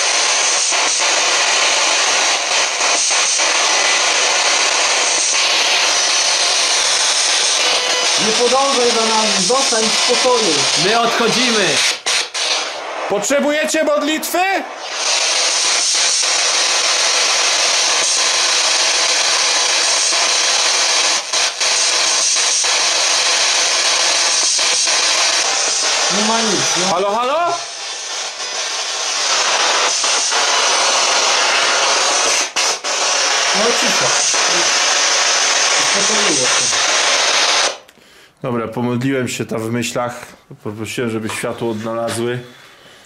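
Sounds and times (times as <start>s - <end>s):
radio static: 0.0s - 37.8s.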